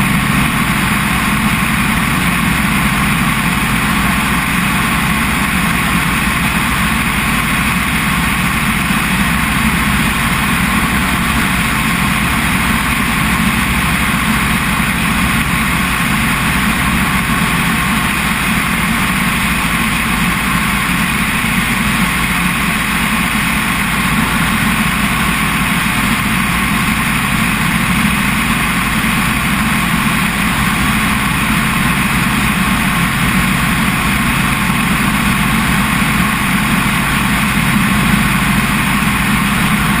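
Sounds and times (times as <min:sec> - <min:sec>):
helicopter engine and rotor noise: 0:00.0 - 0:40.0.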